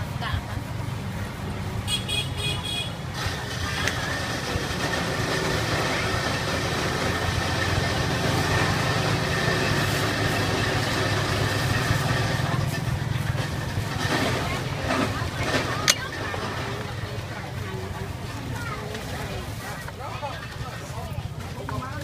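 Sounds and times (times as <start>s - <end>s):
people talking: 0.0s - 22.0s
traffic hum: 0.0s - 22.0s.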